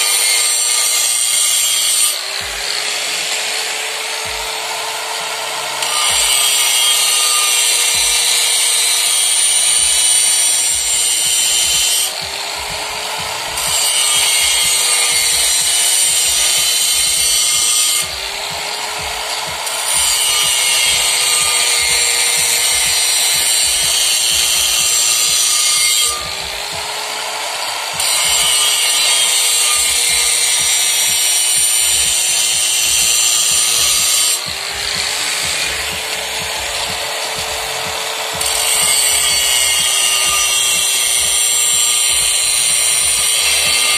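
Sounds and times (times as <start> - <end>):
angle grinder grinding metal: 0.0 - 43.9.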